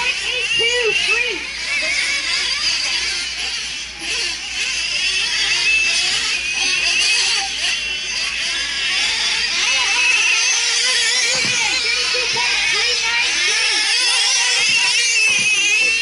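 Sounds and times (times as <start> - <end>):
small engines whining: 0.0 - 16.0.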